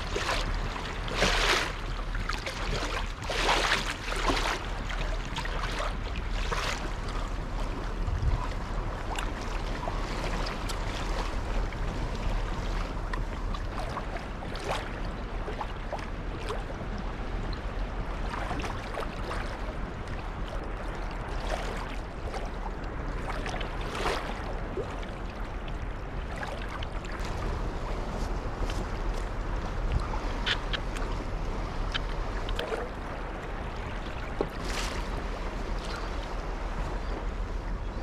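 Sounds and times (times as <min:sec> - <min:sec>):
water lapping against kayak hull: 0:00.0 - 0:38.0
wind rumble on microphone: 0:00.0 - 0:38.0.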